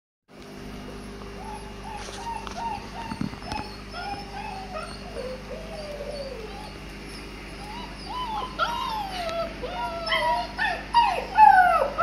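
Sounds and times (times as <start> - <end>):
steady low hum: 0.3 - 12.0
puppies whimpering: 1.0 - 12.0.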